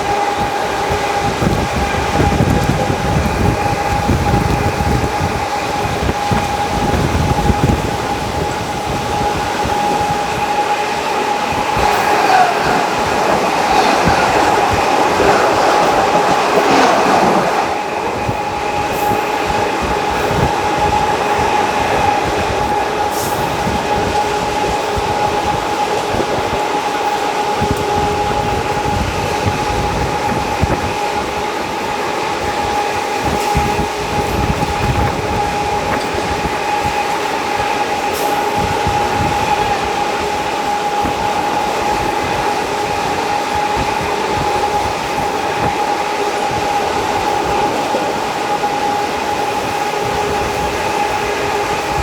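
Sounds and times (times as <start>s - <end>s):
steady train whine: 0.0s - 52.0s
train rushing: 0.0s - 52.0s
wheels clicking over rail joints: 0.0s - 52.0s.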